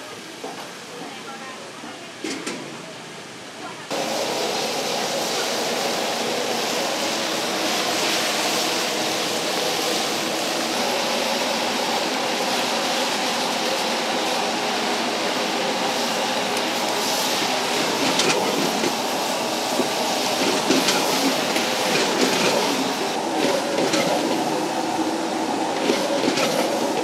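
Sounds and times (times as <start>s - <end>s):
food sizzling: 3.9s - 27.0s
gas burner flame rushing: 3.9s - 27.0s.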